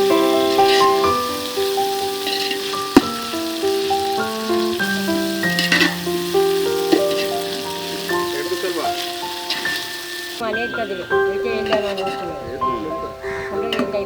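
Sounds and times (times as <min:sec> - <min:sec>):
food sizzling in a pan: 0:00.0 - 0:14.0
instrumental background music: 0:00.0 - 0:14.0.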